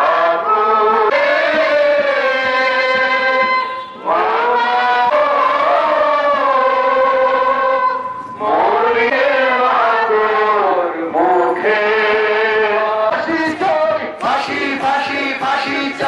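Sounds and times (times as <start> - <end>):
person singing long gliding notes: 0.0 - 13.1.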